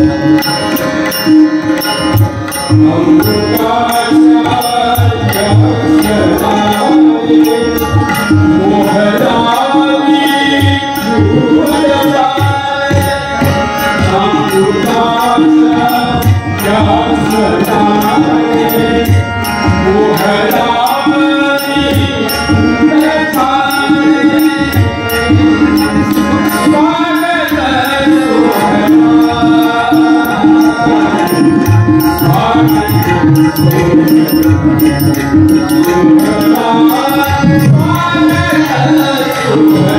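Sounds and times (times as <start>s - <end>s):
harmonium melody: 0.0s - 39.9s
tabla strokes: 0.0s - 39.9s.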